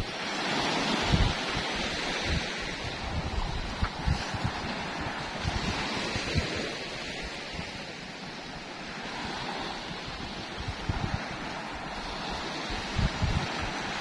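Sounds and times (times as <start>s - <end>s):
small sea waves breaking: 0.0s - 14.0s
wind gusting on microphone: 0.0s - 14.0s.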